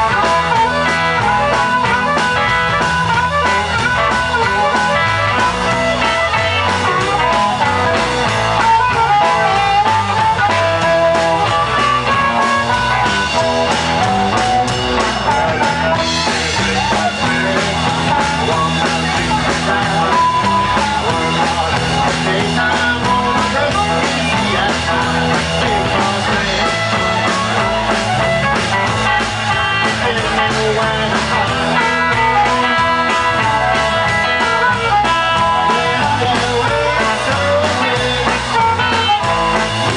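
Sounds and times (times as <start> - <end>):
drums: 0.0 - 39.9
electric guitars: 0.0 - 39.9
harmonica playing lead: 0.0 - 39.9.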